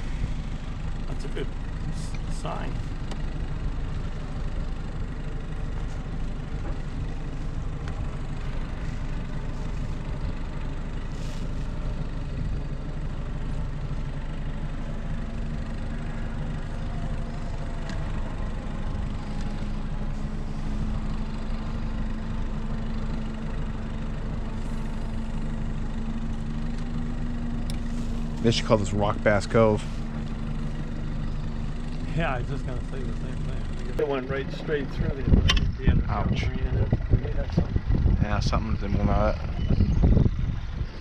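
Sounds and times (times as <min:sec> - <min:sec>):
boat motor humming: 0:00.0 - 0:41.0.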